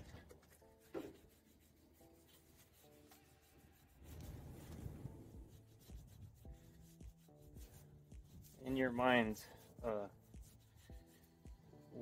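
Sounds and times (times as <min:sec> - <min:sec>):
cloth rubbing on metal: 0:00.0 - 0:12.0.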